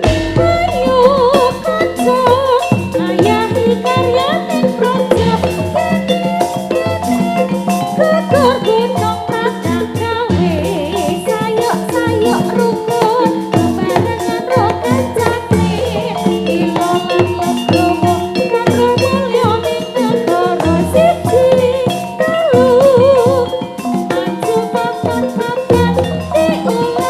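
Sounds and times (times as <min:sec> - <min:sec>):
drum beat: 0:00.0 - 0:27.0
held gamelan tones: 0:00.0 - 0:27.0
wavering melody: 0:00.0 - 0:27.0.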